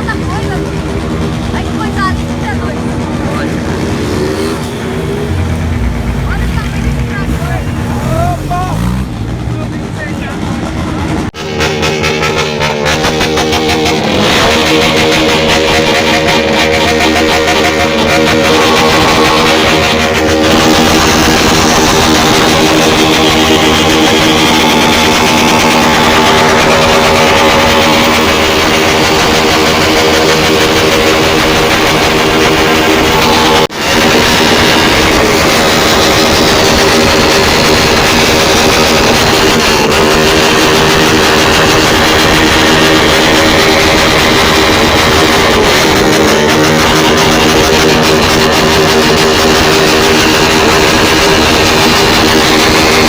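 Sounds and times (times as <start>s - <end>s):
loud guitar music: 0.0s - 9.3s, 11.1s - 53.0s
motorcycle engines running: 0.0s - 53.0s.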